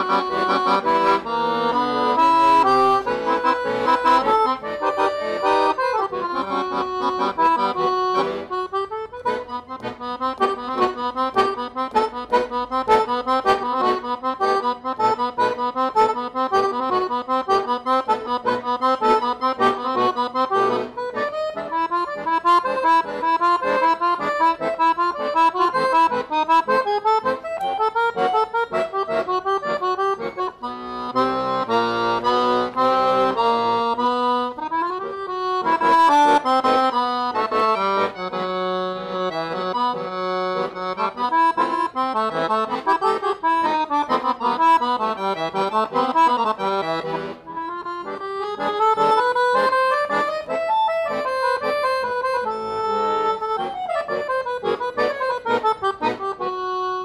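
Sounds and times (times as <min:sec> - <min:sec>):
accordion music: 0:00.0 - 0:57.0.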